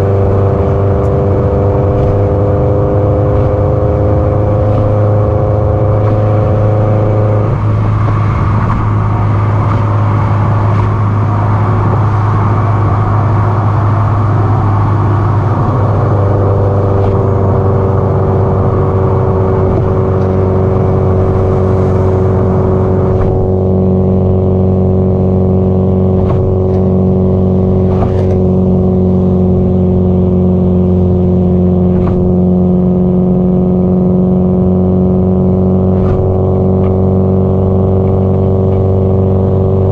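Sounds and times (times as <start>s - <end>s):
car engine and exhaust droning: 0.0s - 39.9s.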